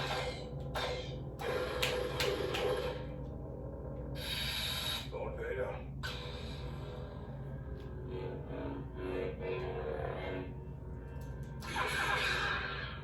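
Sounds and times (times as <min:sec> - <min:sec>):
electronic hum: 0:00.0 - 0:13.0.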